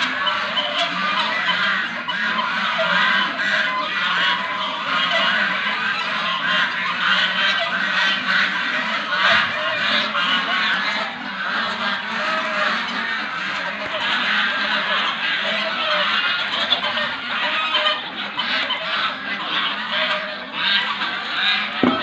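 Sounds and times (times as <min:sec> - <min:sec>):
geese and ducks honking: 0:00.0 - 0:22.0.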